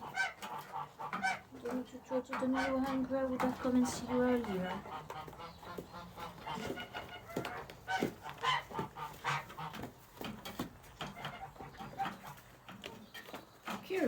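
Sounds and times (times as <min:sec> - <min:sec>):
geese honking softly: 0:00.0 - 0:10.0, 0:11.0 - 0:12.5.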